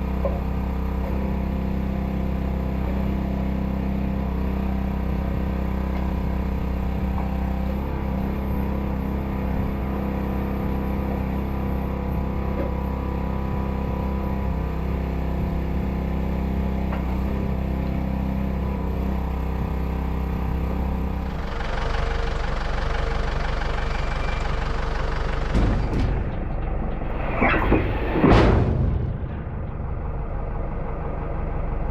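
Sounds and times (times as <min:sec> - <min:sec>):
engine running steadily: 0:00.0 - 0:31.9.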